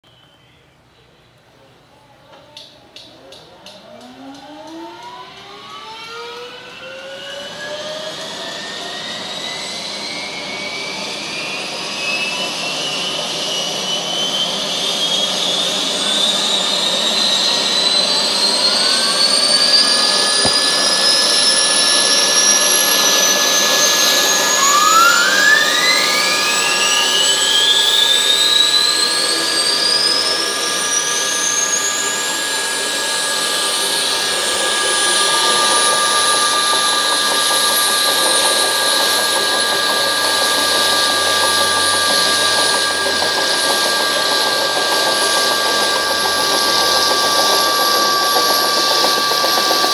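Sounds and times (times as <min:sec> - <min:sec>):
turbine whine rising in pitch: 0:02.3 - 0:49.9
whine sweeping up quickly: 0:03.8 - 0:49.9.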